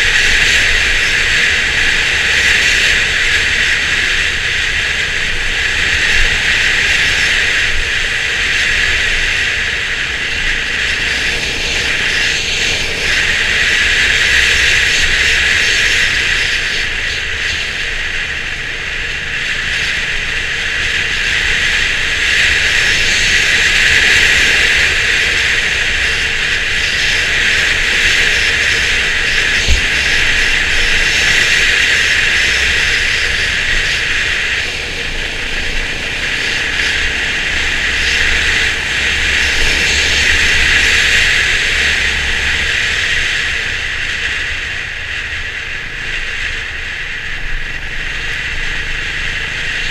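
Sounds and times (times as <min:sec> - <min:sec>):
motorcycle engine running low: 0:00.0 - 0:49.9
road noise: 0:00.0 - 0:49.9
rush of wind: 0:00.0 - 0:49.9.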